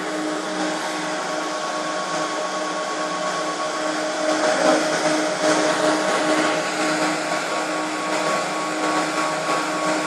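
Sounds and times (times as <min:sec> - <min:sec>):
constant tonal hum: 0:00.0 - 0:10.0
cooling fans rushing air: 0:00.0 - 0:10.0.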